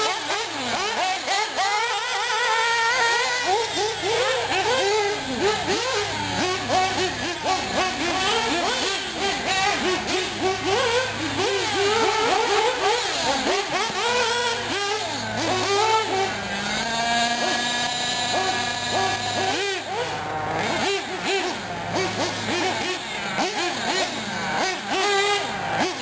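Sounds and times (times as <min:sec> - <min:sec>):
small model car engines revving: 0:00.0 - 0:26.0.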